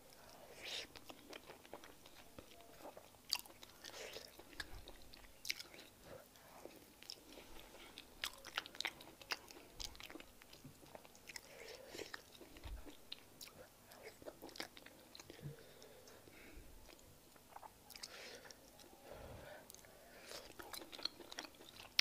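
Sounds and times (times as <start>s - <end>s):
wet chewing: 0.1s - 18.9s, 19.7s - 22.0s.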